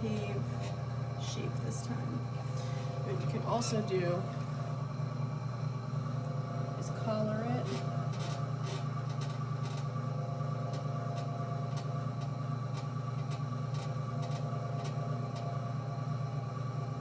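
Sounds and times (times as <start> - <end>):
pottery wheel motor hum: 0.0 - 17.0.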